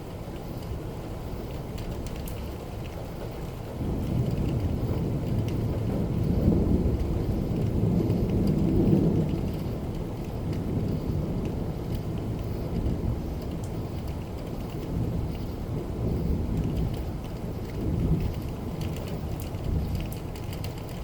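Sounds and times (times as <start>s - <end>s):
steady rain: 0.0s - 21.0s
low rumble of thunder: 0.8s - 21.0s.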